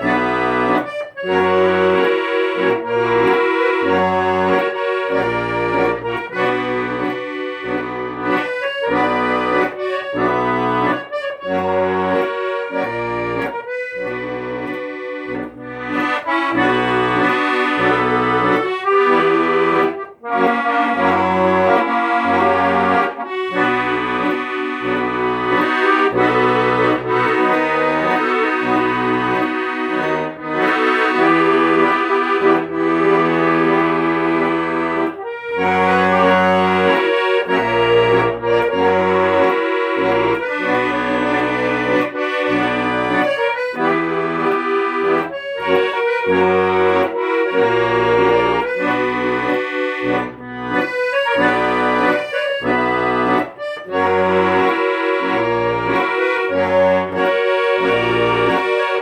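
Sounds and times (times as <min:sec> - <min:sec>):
accordion playing a tune: 0:00.0 - 0:59.0.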